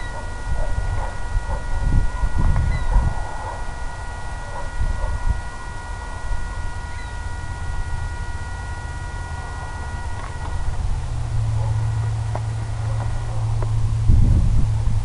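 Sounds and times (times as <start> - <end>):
high electronic whine: 0.0 - 15.0
low gusty rumble: 0.0 - 15.0.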